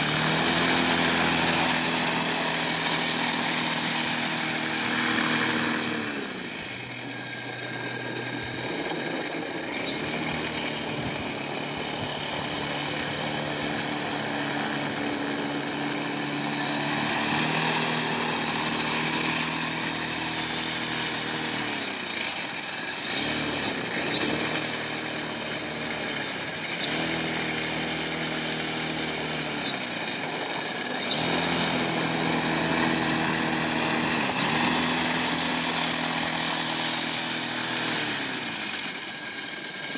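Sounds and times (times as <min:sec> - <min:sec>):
propeller motor buzzing: 0:00.0 - 0:39.9.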